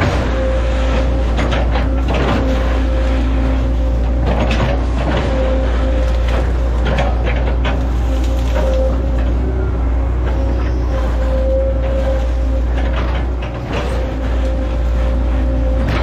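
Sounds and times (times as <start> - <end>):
engine whine: 0.0 - 16.0
excavator diesel engine running: 0.0 - 16.0.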